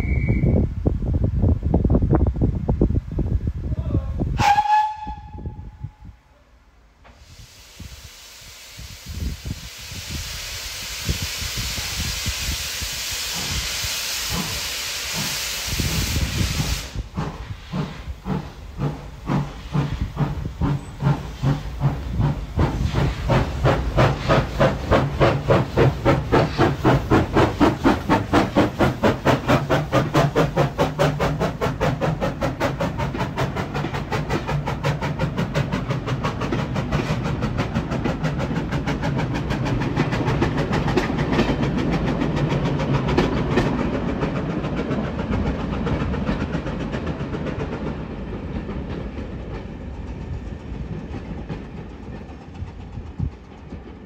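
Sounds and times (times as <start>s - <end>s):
steam locomotive chuffing: 7.0s - 54.0s.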